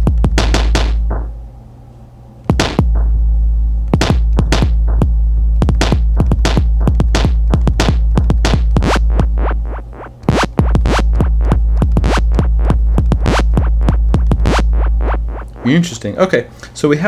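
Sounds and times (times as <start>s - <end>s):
electronic drum hits: 0.0s - 1.3s, 2.5s - 3.2s, 3.9s - 15.9s
low bass drone: 0.0s - 16.0s.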